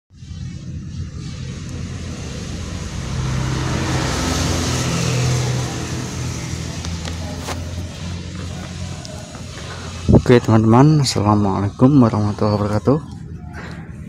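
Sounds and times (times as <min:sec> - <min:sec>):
vehicle engine drone: 0:00.1 - 0:14.0.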